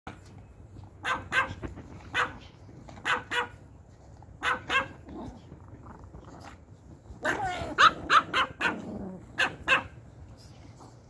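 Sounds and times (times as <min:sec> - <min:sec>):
small dogs yapping: 0:01.0 - 0:03.7, 0:04.4 - 0:11.0.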